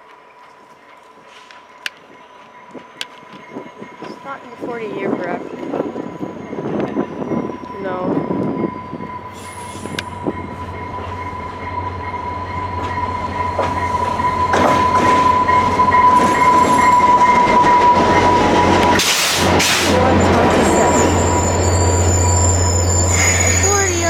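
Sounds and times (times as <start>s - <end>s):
diesel locomotive hum: 0.0s - 24.0s
train wheel squeal: 0.4s - 24.0s.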